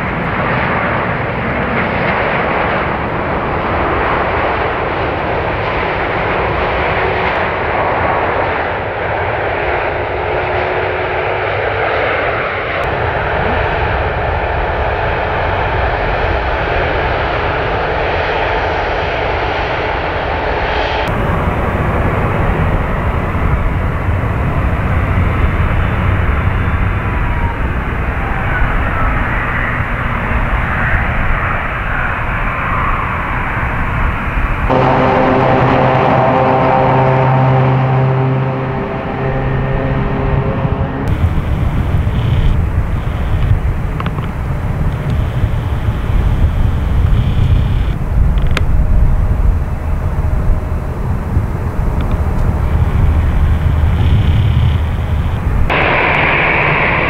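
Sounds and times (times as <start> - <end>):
jet plane landing: 0.0 - 57.0
jet plane takeoff roll: 0.0 - 57.0.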